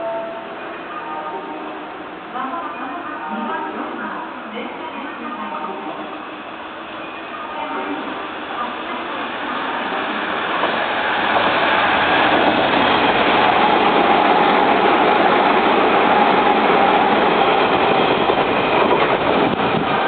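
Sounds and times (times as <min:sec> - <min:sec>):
electric train rumbling on track: 0:00.0 - 0:20.0.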